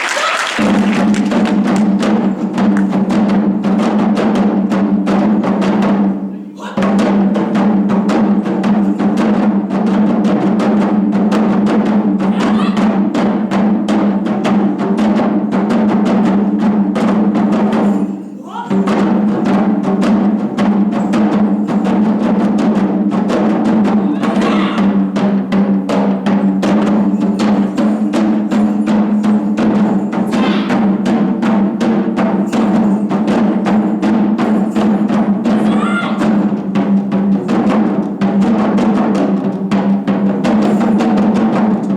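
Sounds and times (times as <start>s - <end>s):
taiko drum ensemble: 0.0s - 41.9s.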